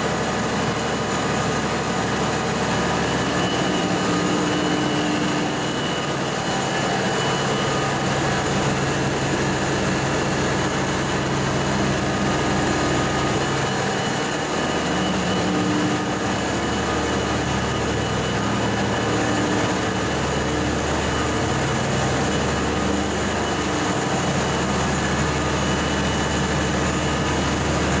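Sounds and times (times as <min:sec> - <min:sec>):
continuous rushing noise: 0:00.0 - 0:28.0
mechanical drone: 0:00.0 - 0:28.0.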